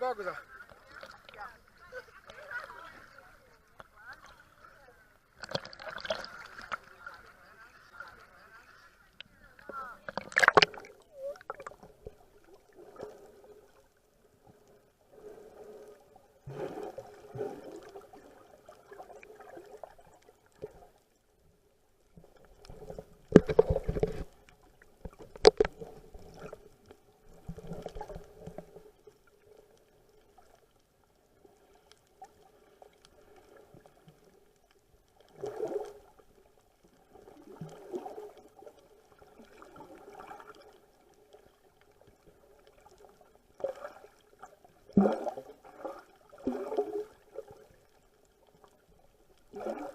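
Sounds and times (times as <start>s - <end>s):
seawater sloshing and gurgling: 0.0s - 13.8s, 15.0s - 21.0s, 22.3s - 29.4s, 35.3s - 48.8s, 49.4s - 49.9s.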